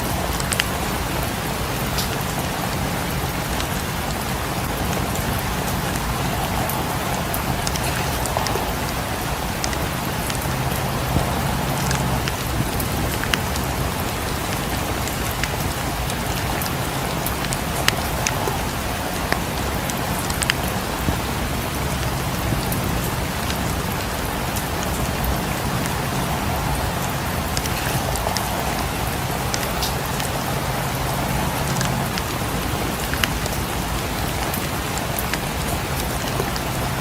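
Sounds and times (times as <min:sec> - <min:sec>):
sharp ticks of raindrops: 0:00.0 - 0:37.0
steady rain hissing: 0:00.0 - 0:37.0.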